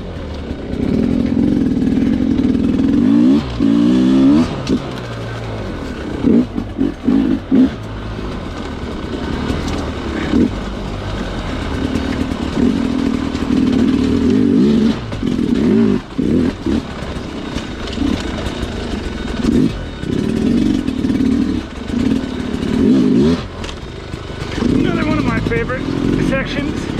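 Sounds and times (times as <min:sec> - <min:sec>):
dirt bike engine throttle blips: 0:00.0 - 0:26.9.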